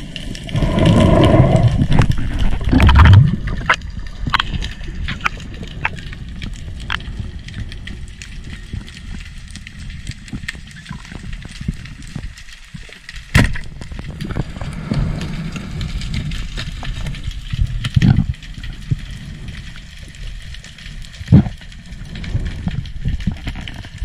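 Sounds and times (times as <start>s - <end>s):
muffled underwater rumble: 0.0s - 24.0s.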